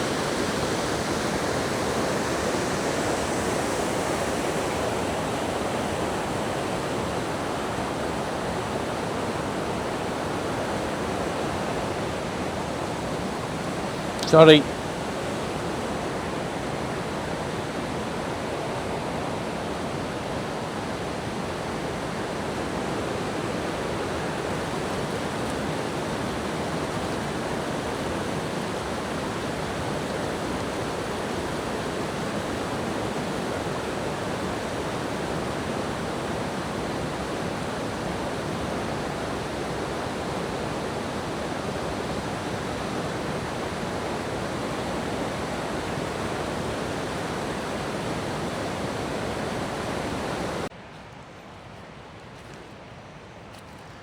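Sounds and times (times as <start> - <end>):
waterfall roaring: 0.0 - 50.7.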